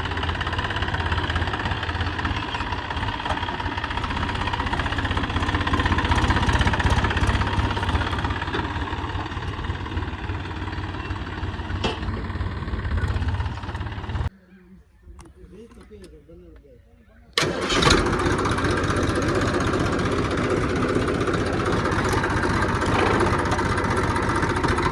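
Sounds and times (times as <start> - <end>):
engine running: 0.0 - 14.3, 17.4 - 24.9.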